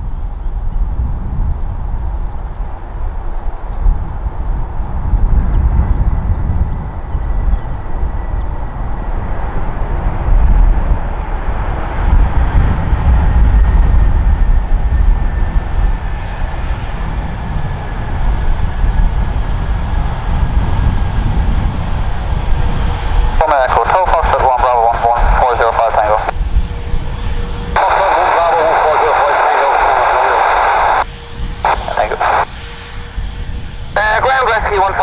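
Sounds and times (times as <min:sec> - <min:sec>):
jet engine rumble with whine: 0:00.0 - 0:35.0.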